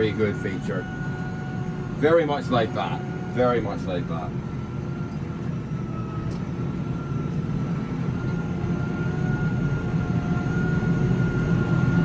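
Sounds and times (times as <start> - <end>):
thin steady whine: 0.0 - 12.0.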